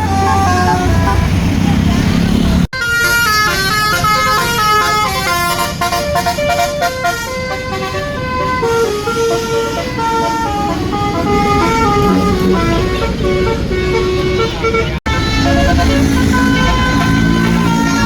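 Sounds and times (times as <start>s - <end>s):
bus horn playing melody: 0.0s - 18.0s.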